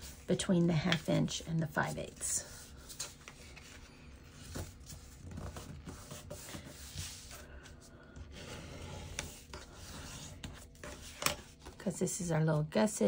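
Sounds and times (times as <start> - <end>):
paper rustling and rubbing: 0.0 - 11.8.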